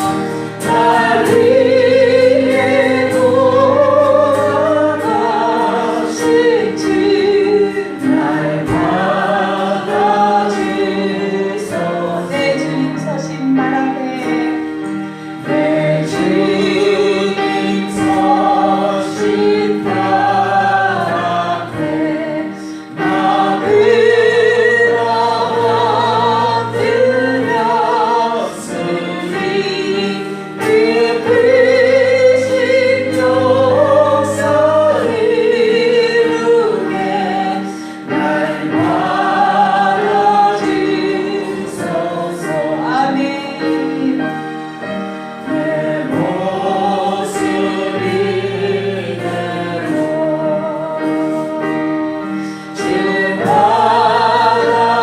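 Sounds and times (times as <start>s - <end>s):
congregation singing a hymn: 0.0s - 55.0s
instrumental accompaniment: 0.0s - 55.0s.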